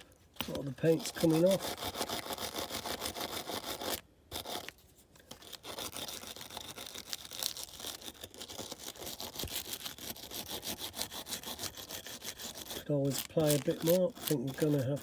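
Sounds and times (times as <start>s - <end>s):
rapid scrubbing strokes: 0.5s - 4.7s, 5.6s - 15.0s.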